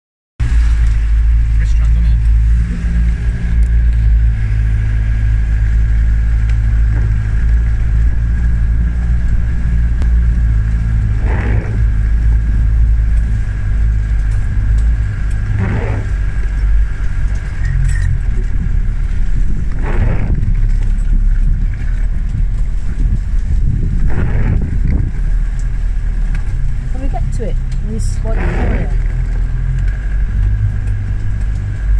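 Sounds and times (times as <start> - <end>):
low engine drone: 0.4 - 31.9
windscreen wiper swish: 0.4 - 31.9.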